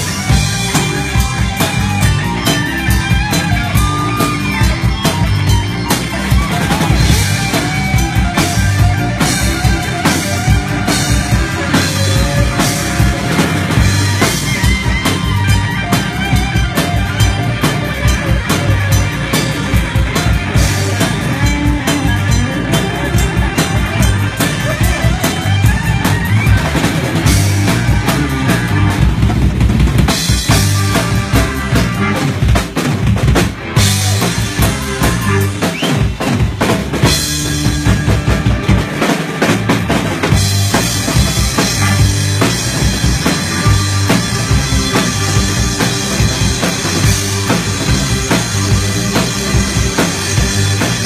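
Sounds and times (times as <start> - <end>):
bass: 0.0 - 51.0
drum kit beat: 0.0 - 51.0
electric guitar lead: 0.0 - 51.0
keyboards: 0.0 - 51.0.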